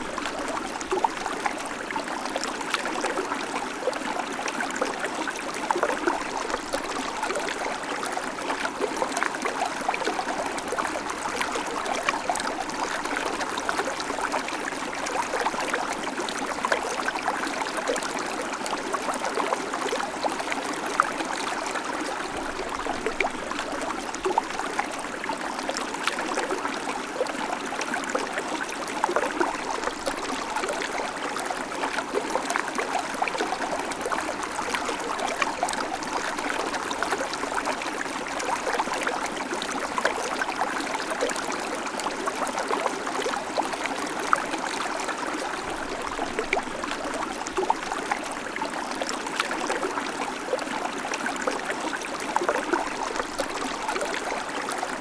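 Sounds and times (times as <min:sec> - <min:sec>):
creek water over stones: 0:00.0 - 0:55.0.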